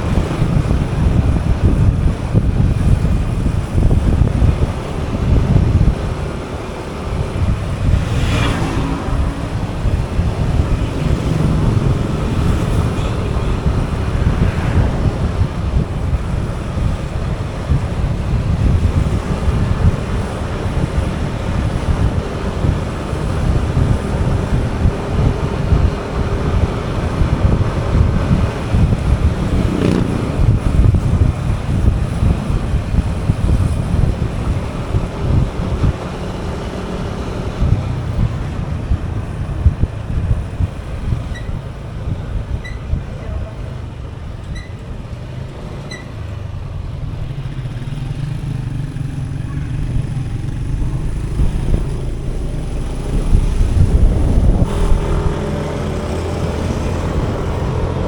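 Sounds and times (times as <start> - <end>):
vehicle passing: 0.0 - 42.6, 46.4 - 58.0
road and traffic noise: 0.0 - 58.0
wind buffeting microphone: 0.0 - 58.0.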